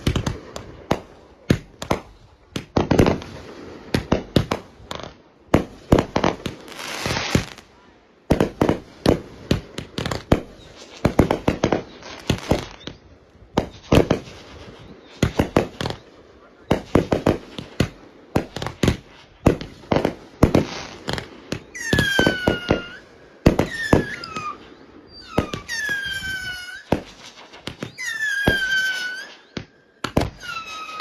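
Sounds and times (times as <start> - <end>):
firework hiss: 0.0 - 7.7, 8.3 - 31.0
fireworks bangs and cracks: 0.0 - 31.0.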